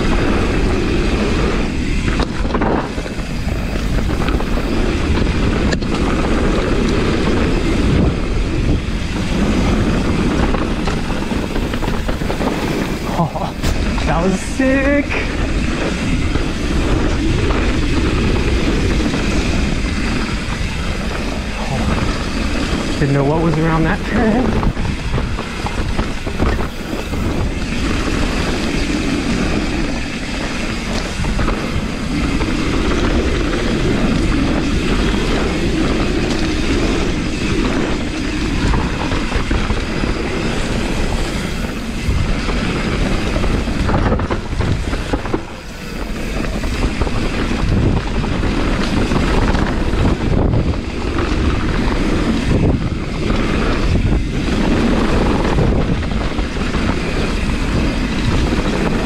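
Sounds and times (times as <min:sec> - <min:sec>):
bike rattling over ground: 0:00.0 - 0:59.0
wind rushing on microphone: 0:00.0 - 0:59.0.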